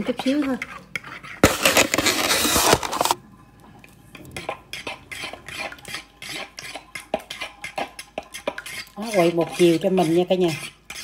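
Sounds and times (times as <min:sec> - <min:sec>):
utensil stirring batter in bowl: 0:00.0 - 0:03.2, 0:04.1 - 0:11.0.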